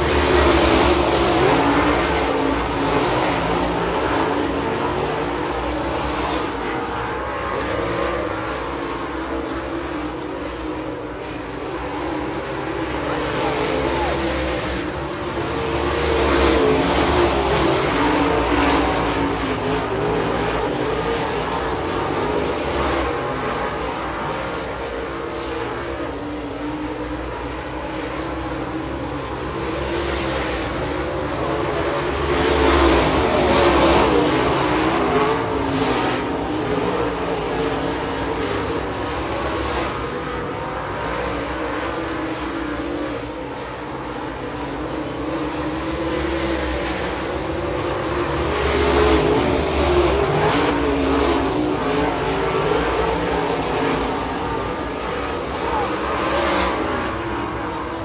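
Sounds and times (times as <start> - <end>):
race car engines droning: 0.0 - 58.0.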